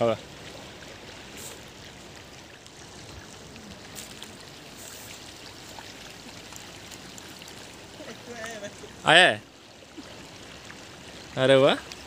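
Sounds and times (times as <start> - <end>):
river water flowing: 0.0 - 12.0
water trickling and dripping: 0.0 - 12.0.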